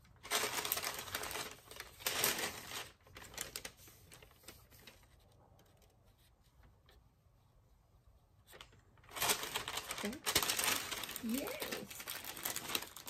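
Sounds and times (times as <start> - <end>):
paper crinkling and rustling: 0.0 - 7.0, 8.4 - 13.0.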